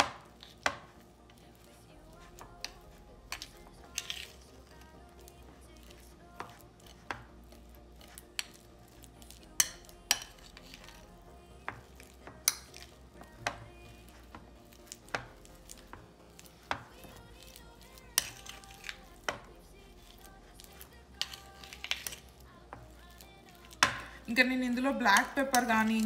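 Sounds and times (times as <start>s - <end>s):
faint background music: 0.0s - 26.0s.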